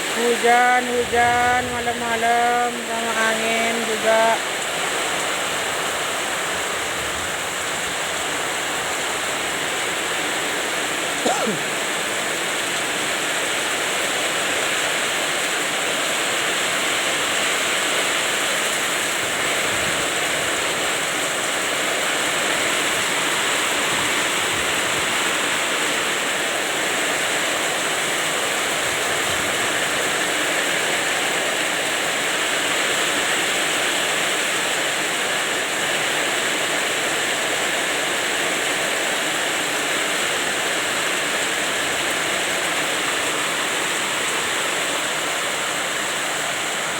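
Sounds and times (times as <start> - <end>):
heavy rain: 0.0 - 46.9
wind: 0.0 - 46.9.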